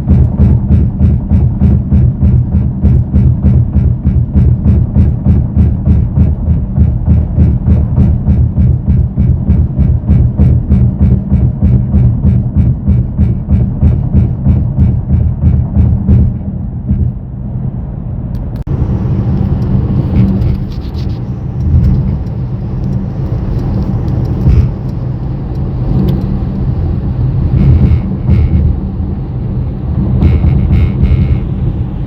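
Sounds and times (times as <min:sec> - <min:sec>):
car cabin road rumble: 0:00.0 - 0:32.0.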